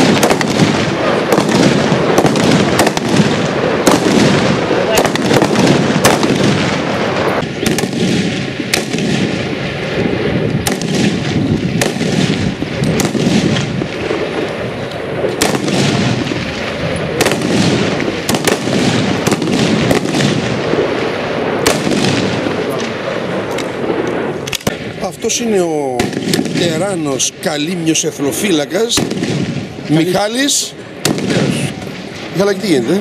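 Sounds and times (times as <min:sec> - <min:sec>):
rifle shots: 0:00.0 - 0:27.3, 0:28.2 - 0:33.0
background rush: 0:00.0 - 0:33.0.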